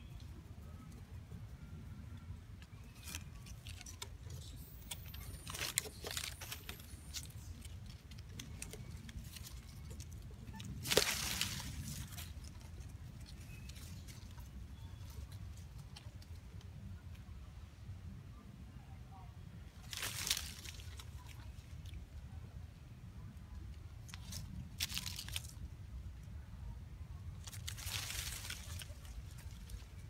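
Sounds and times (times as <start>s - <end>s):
leaves and twigs rustling: 0.0s - 17.5s, 19.5s - 30.0s
low steady rumble: 0.0s - 30.0s.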